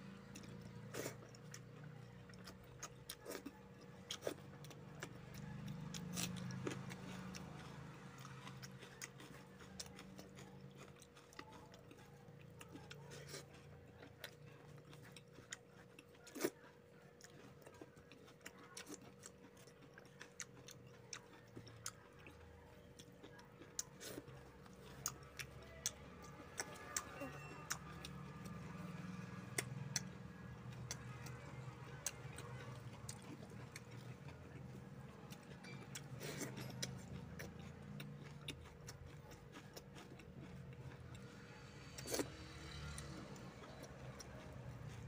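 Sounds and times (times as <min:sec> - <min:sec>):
man chewing food: 0:00.0 - 0:45.0.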